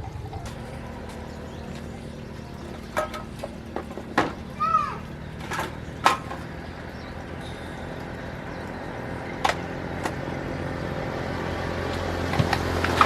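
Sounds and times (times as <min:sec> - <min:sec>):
motor engine running: 0:00.0 - 0:13.0.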